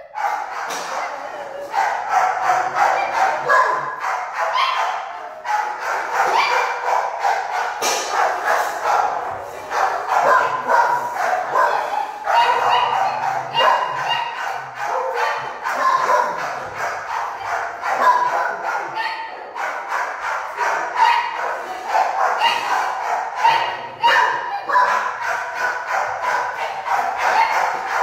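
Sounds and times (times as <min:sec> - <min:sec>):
many dogs barking: 0:00.0 - 0:28.0.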